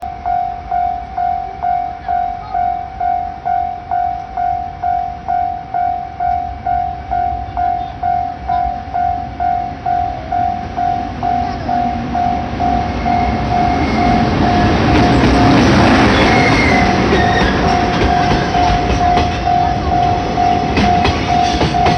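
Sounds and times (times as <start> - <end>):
freight train rumble: 0.0 - 21.9
level-crossing warning bell: 0.0 - 21.9.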